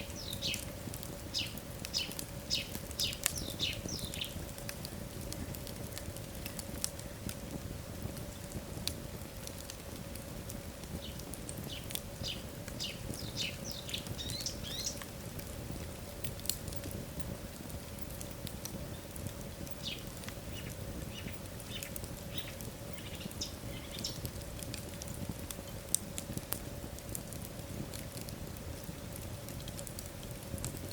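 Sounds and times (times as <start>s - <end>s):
faint steady hum: 0.0s - 30.9s
fire crackling and popping: 0.0s - 30.9s
low rumble of flames: 0.0s - 30.9s.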